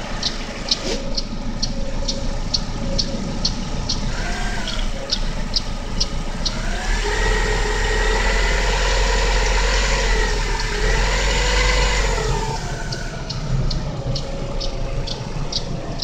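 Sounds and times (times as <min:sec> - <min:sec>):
car engine idling and revving: 0:00.0 - 0:16.0
engine ticking: 0:00.0 - 0:16.0.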